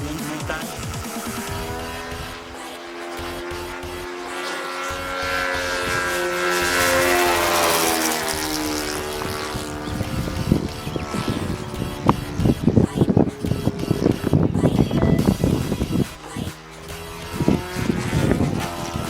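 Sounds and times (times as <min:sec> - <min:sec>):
model airplane engine flying past: 0:00.0 - 0:19.0.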